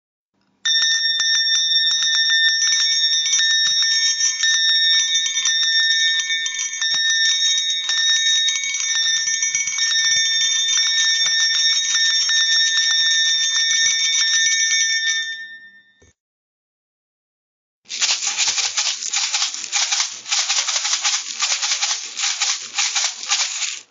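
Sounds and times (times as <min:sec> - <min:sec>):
dinner bells ringing rapidly: 0:00.7 - 0:15.8, 0:17.9 - 0:23.9.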